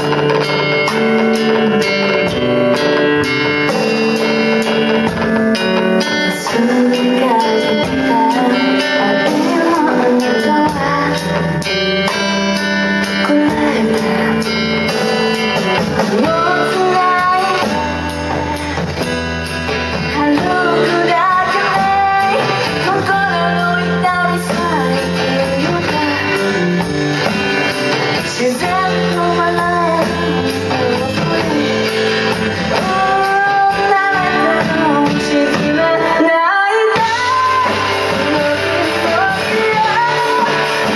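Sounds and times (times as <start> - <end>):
guitar chords: 0.0 - 40.9
person singing: 0.0 - 40.9.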